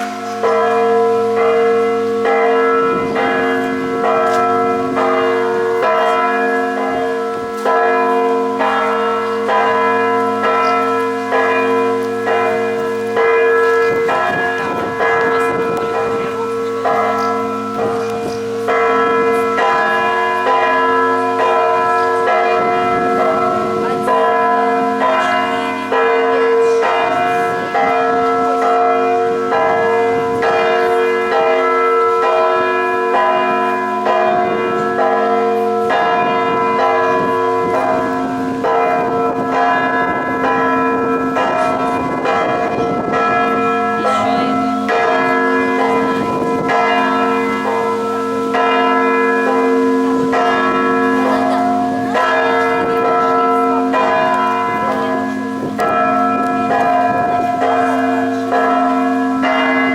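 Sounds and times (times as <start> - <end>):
church bells ringing in a peal: 0.0 - 59.9
hum of large bells: 0.0 - 59.9.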